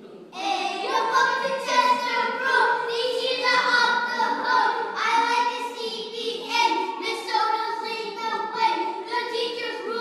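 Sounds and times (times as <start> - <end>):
children singing and rapping: 0.4 - 10.0.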